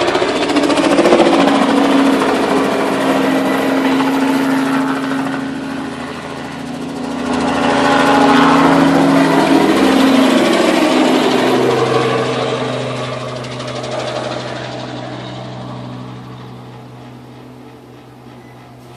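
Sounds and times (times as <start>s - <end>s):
helicopter rotor throbbing: 0.0s - 18.9s.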